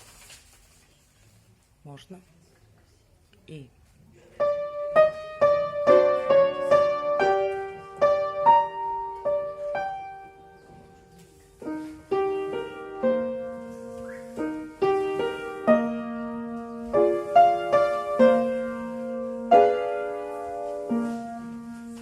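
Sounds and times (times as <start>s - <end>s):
solo piano: 4.3s - 22.0s.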